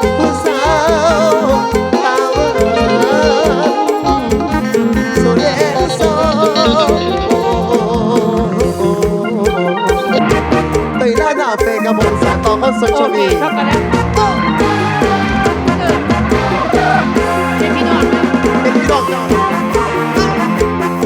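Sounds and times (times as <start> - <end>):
band playing wavering lead melody: 0.0 - 21.0
drum and bass beat: 0.0 - 21.0.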